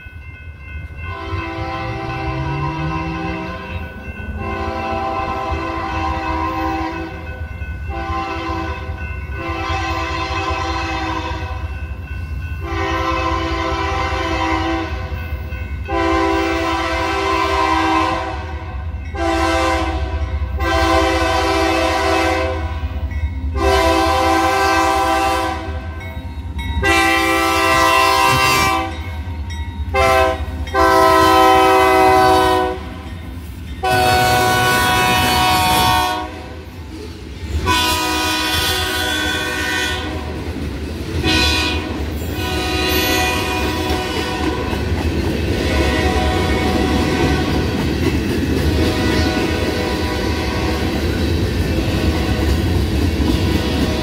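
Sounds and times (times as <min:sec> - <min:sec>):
train air horn blasts: 0:01.0 - 0:07.3, 0:07.9 - 0:11.8, 0:12.6 - 0:23.0, 0:23.6 - 0:26.0, 0:26.8 - 0:29.1, 0:29.9 - 0:33.1, 0:33.8 - 0:36.8, 0:37.6 - 0:40.4, 0:41.2 - 0:44.7, 0:45.6 - 0:47.7, 0:48.7 - 0:51.1, 0:51.9 - 0:52.6, 0:53.4 - 0:54.0.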